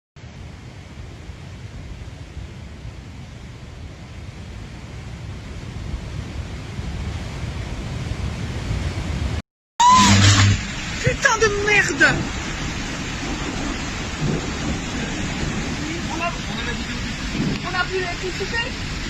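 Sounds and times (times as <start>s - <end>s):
mountain torrent rushing: 0.2s - 19.0s
wind on microphone: 0.3s - 19.0s.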